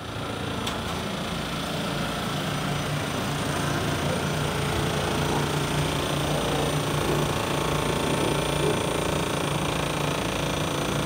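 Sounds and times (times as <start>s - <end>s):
destemmer machine running: 0.0s - 11.0s.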